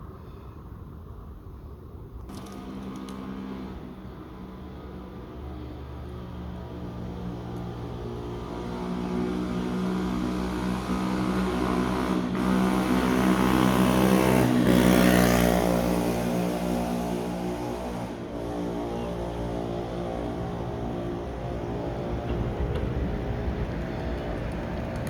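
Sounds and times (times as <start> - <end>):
vehicle passing on road: 2.3 - 25.0.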